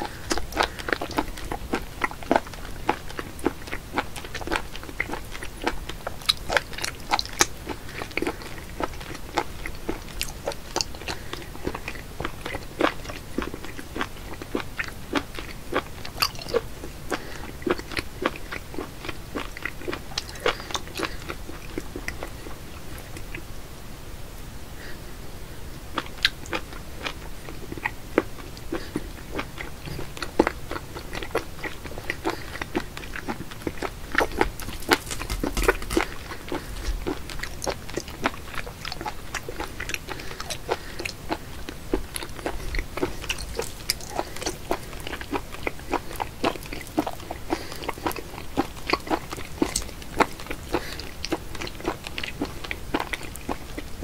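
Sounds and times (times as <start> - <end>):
wet chewing mouth clicks: 0.0 - 23.4, 26.0 - 54.0.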